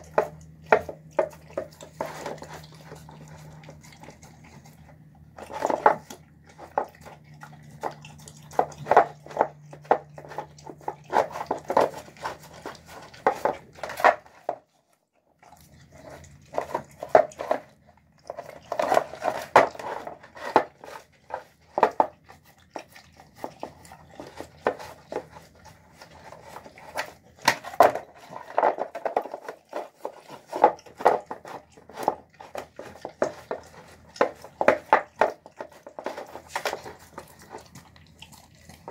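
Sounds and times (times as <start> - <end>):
dog licking plastic bowl: 0.0 - 38.9.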